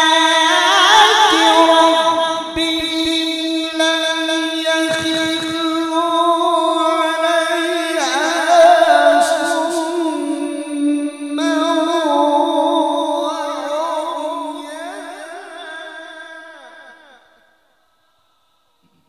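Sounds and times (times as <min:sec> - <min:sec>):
man reciting melodically: 0:00.0 - 0:17.5.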